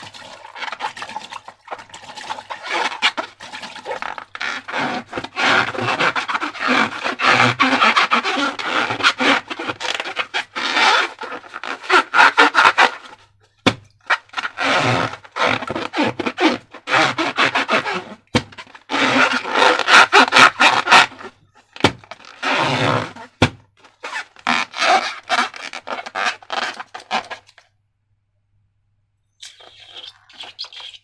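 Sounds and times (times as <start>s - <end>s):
rubber balloons rubbing: 0.0s - 27.6s, 29.4s - 31.0s.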